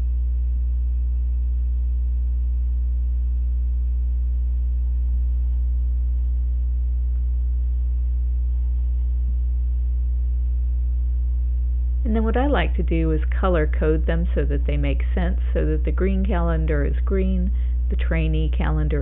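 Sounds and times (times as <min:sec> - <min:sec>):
low electrical mains hum: 0:00.0 - 0:19.0.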